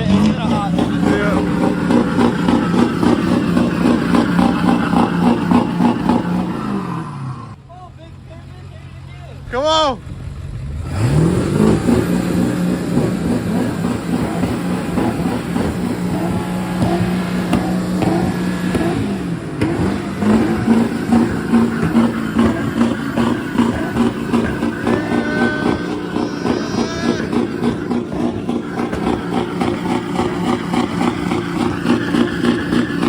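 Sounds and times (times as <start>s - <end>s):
pickup truck engine revving: 0.0s - 33.0s.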